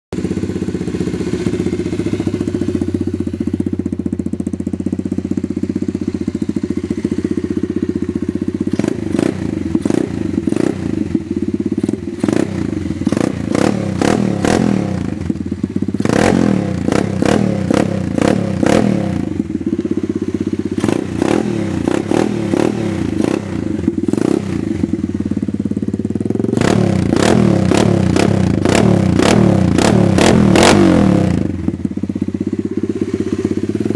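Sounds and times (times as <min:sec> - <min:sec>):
motorbike engine revving: 0:00.2 - 0:33.9.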